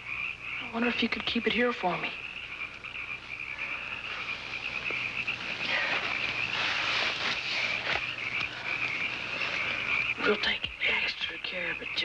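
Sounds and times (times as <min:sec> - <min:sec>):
frogs trilling: 0:00.0 - 0:12.0.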